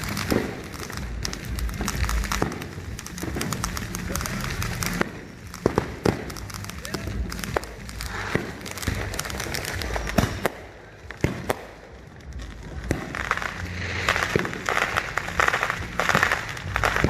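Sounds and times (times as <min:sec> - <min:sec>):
fireworks bangs and pops: 0:00.0 - 0:17.0
fireworks dense crackling: 0:00.0 - 0:17.0.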